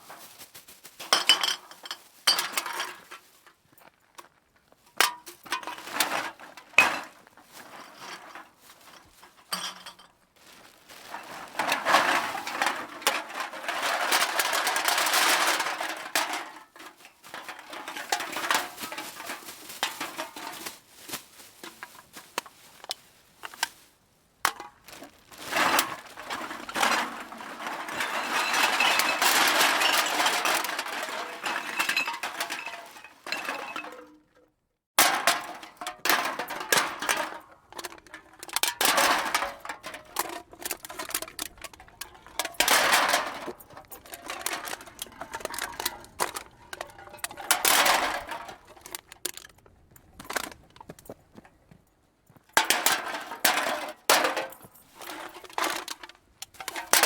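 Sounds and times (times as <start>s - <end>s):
small hard objects clattering: 0.0s - 57.0s.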